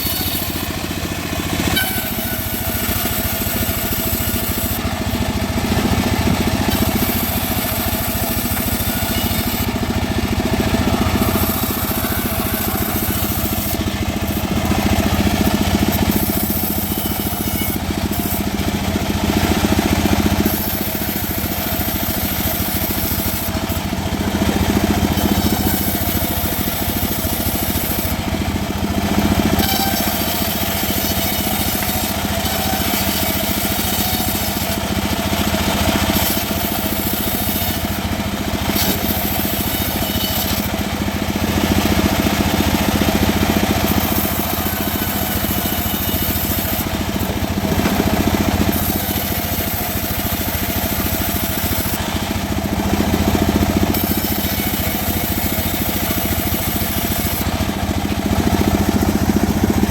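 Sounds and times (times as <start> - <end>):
motor hum: 0.0 - 59.9
saw cutting wood: 0.0 - 59.9.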